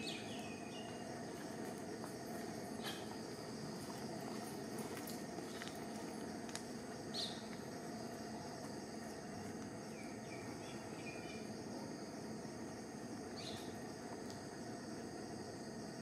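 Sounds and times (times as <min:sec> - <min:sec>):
insect drone: 0:00.0 - 0:16.0
steady hiss: 0:00.0 - 0:16.0.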